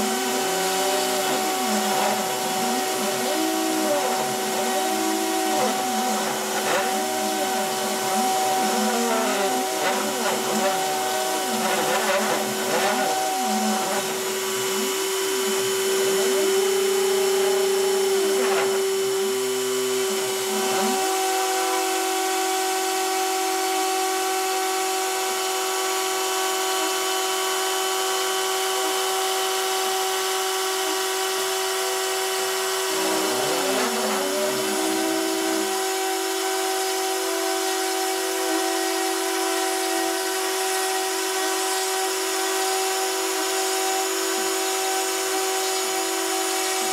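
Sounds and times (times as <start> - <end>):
rotary tool whining: 0.0 - 46.9
stepper motors whining: 0.0 - 46.9.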